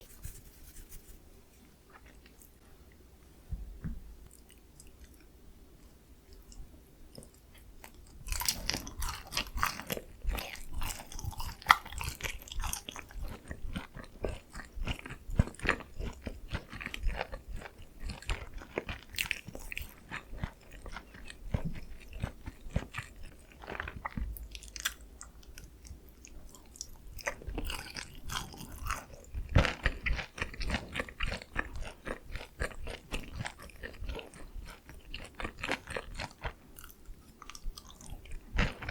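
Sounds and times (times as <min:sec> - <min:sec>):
biting and chewing crispy chicken: 0:07.2 - 0:38.9.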